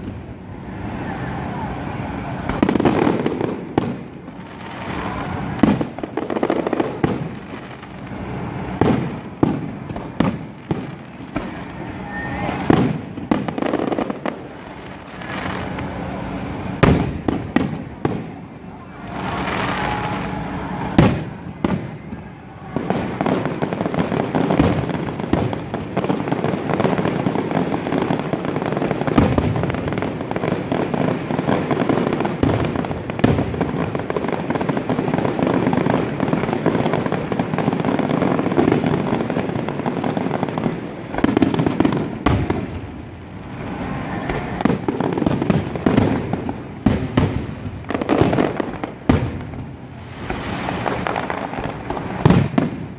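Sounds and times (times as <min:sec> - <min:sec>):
fireworks bangs: 0:00.0 - 0:52.9
fireworks crackling: 0:00.0 - 0:52.9.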